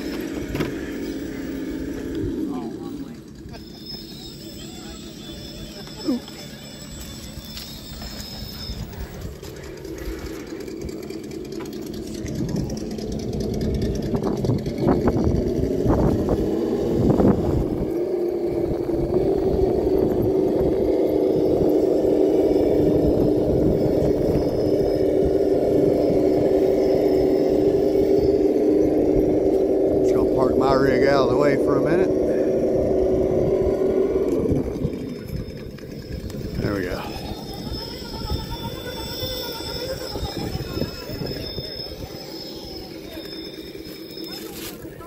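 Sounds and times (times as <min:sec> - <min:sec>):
engine humming: 0:00.0 - 0:45.0.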